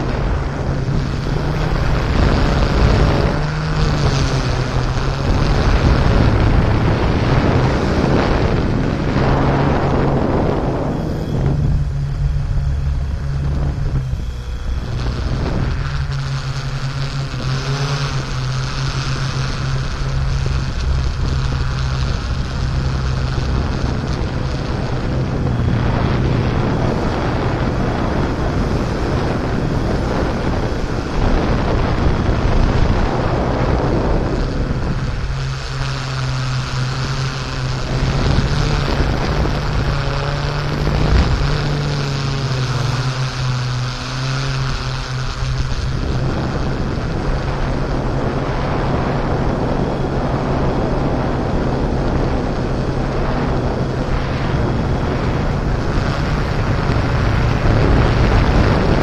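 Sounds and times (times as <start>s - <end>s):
drone propellers buzzing: 0.0s - 59.0s
wind on microphone: 0.0s - 59.0s.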